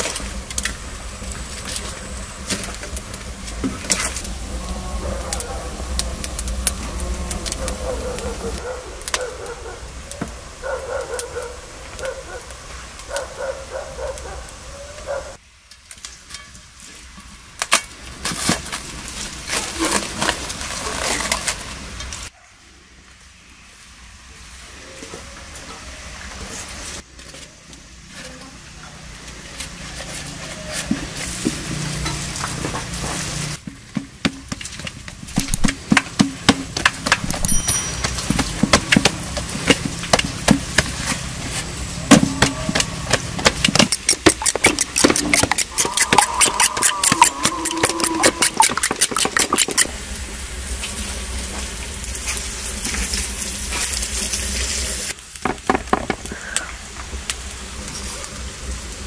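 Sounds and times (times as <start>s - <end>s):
wood fire crackling: 0.0s - 22.3s, 22.9s - 59.0s.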